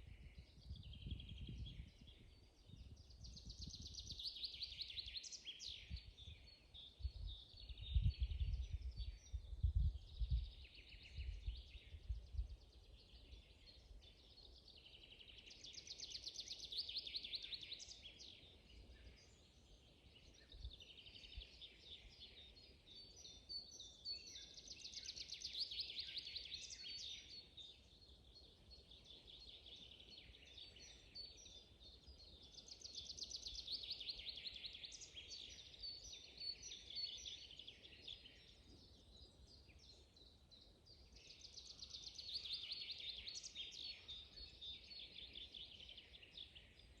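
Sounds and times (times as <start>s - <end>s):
bird trilled song: 0.0s - 47.0s
soft bird chirps: 0.0s - 47.0s.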